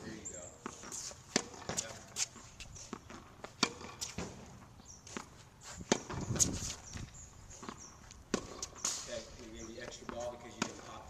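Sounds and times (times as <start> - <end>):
tennis balls hit with racket: 0.1 - 11.0
balls bouncing on hard court: 0.6 - 4.6, 5.2 - 6.7, 7.6 - 11.0.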